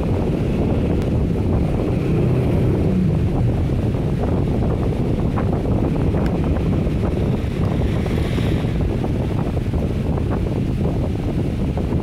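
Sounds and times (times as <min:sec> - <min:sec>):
low rumbling noise: 0:00.0 - 0:12.0.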